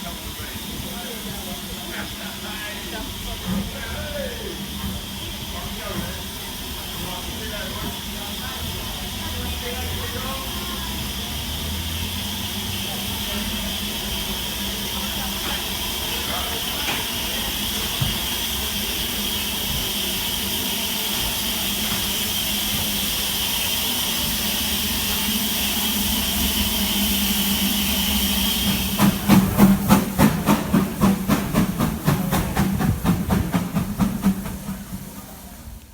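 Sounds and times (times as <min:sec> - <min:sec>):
locomotive exhaust beats: 0:00.0 - 0:35.9
steam locomotive hissing: 0:00.0 - 0:35.9.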